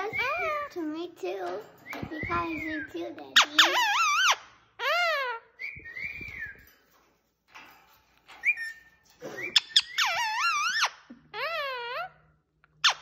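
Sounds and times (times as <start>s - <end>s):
parakeet calling and whistling: 0.0s - 0.8s, 1.5s - 6.7s, 8.4s - 13.0s.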